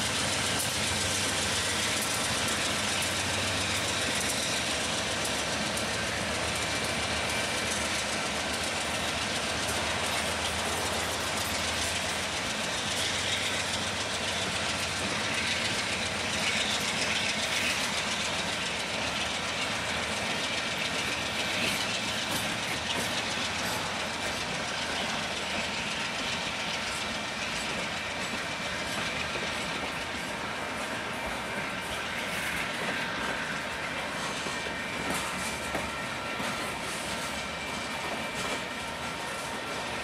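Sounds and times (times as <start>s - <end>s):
steel wheels clicking over rail joints: 0.0s - 40.0s.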